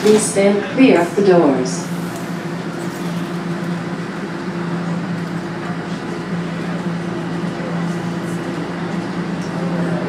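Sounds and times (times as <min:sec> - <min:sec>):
subway train running: 0:00.0 - 0:10.0.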